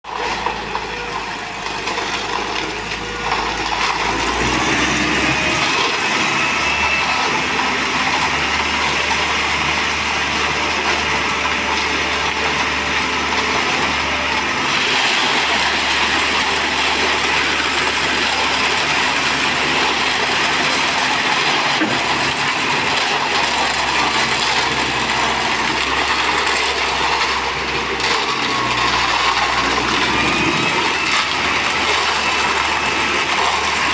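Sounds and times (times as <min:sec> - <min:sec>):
hydraulic pump droning: 0:00.1 - 0:33.9.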